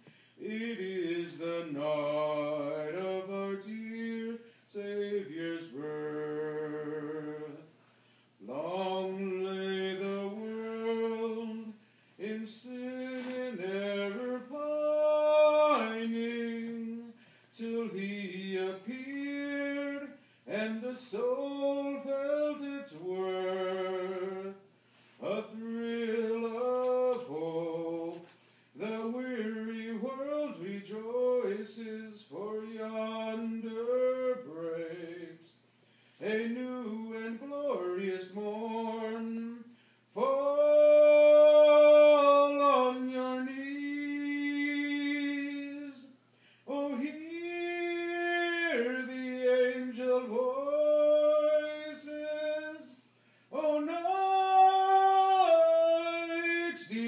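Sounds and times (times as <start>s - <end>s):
man singing unaccompanied: 0.0s - 7.8s, 8.4s - 57.0s.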